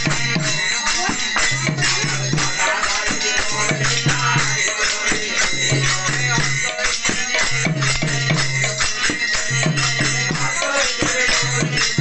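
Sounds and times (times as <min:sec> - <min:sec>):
drum strokes: 0:00.0 - 0:12.0
hand cymbals clashing: 0:00.0 - 0:12.0
men singing a devotional chant: 0:00.0 - 0:12.0.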